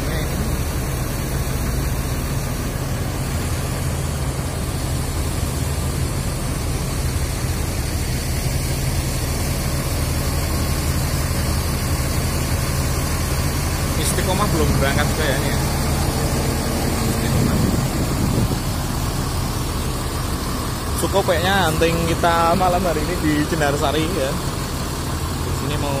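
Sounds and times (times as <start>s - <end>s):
diesel coach engines idling: 0.0s - 26.0s.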